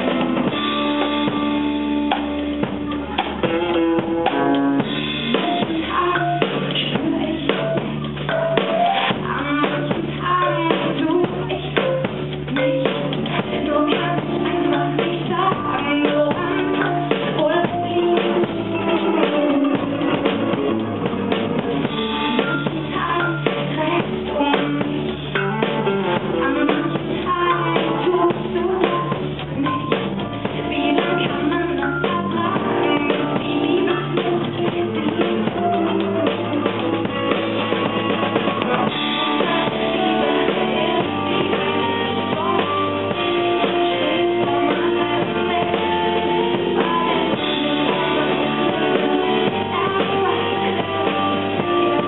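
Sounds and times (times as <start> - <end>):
drum kit beat: 0.0 - 52.0
live band playing: 0.0 - 52.0.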